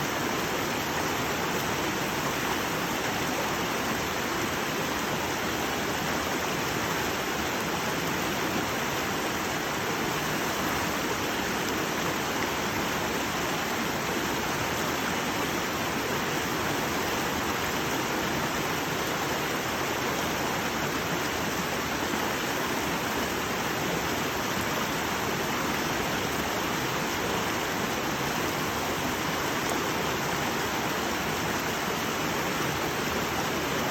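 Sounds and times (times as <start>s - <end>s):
brook babbling: 0.0s - 33.9s.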